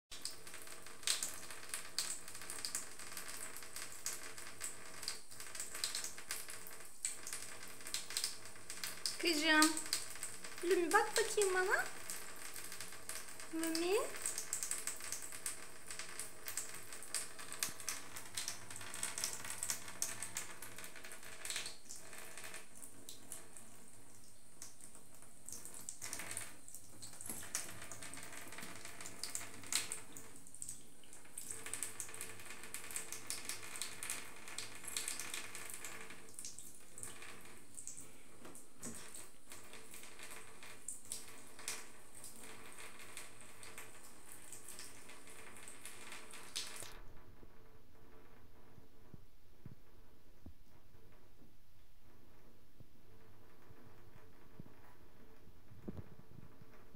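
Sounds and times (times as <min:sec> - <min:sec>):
tap water trickling into tub: 0:00.1 - 0:47.0
water splashes and drips: 0:00.1 - 0:47.1.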